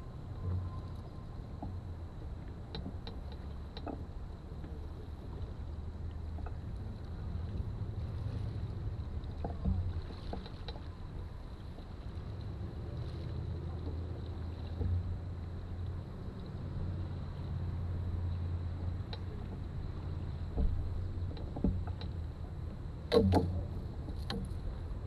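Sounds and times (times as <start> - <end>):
water moving along hull: 0.0 - 25.0
wind rumble on microphone: 0.0 - 25.0
paddle strokes in water: 0.3 - 25.0.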